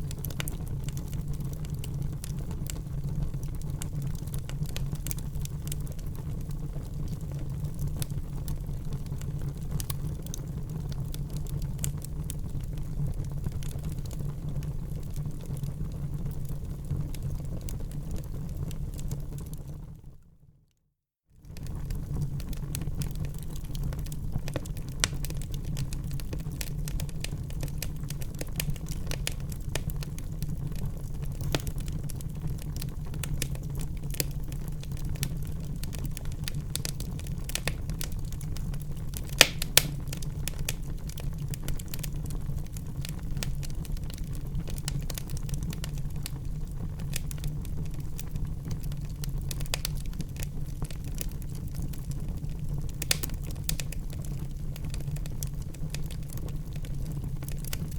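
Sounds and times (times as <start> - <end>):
fire crackling and popping: 0.0 - 20.0, 21.4 - 57.9
low rumble of flames: 0.0 - 20.1, 21.4 - 57.9.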